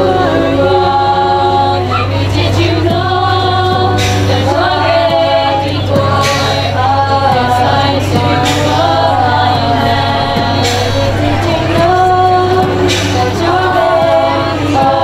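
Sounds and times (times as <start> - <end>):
choir singing: 0.0 - 15.0
steady low hum: 0.0 - 15.0.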